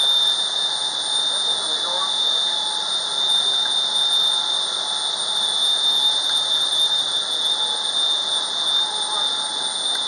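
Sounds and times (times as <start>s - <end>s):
high whine: 0.0s - 10.0s.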